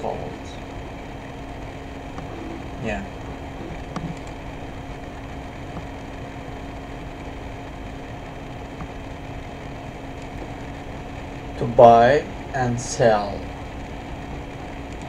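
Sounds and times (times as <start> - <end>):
room noise hum and hiss: 0.0 - 15.0.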